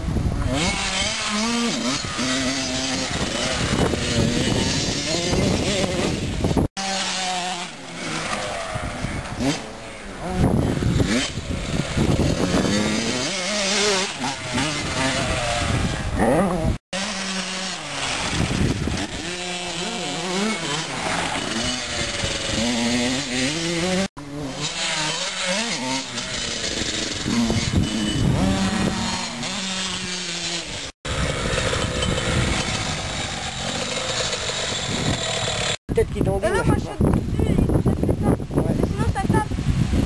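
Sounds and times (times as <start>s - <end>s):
motocross bikes revving: 0.0s - 40.0s.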